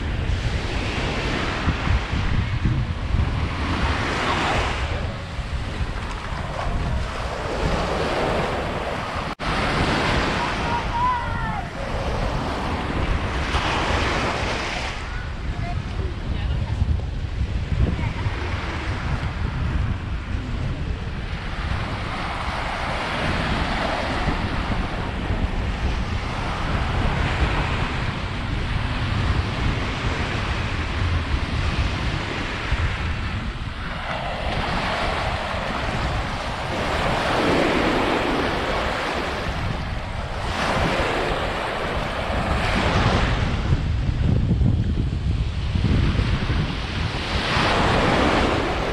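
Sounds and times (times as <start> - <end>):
small waves breaking on shore: 0.0 - 16.5, 18.0 - 43.9, 45.4 - 48.9
wind buffeting microphone: 0.0 - 48.9.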